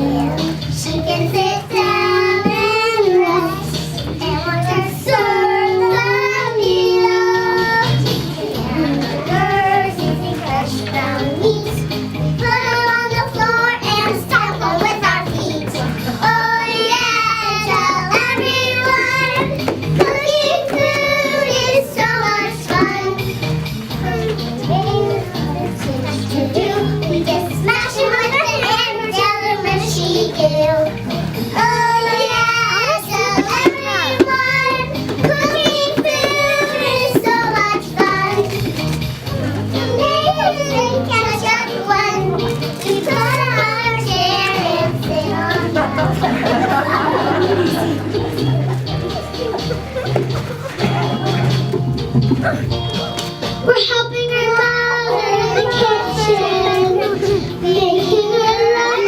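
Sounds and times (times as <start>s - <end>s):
backing music track: 0.0s - 59.0s
children singing: 0.0s - 59.0s
instrumental accompaniment: 0.0s - 59.0s.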